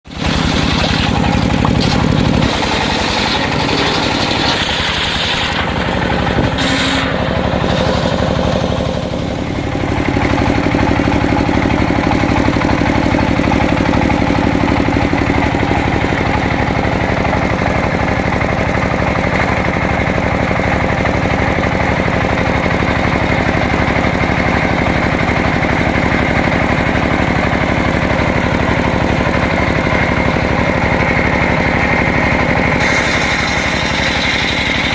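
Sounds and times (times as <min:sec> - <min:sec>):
sawmill engine chugging: 0:00.1 - 0:34.9.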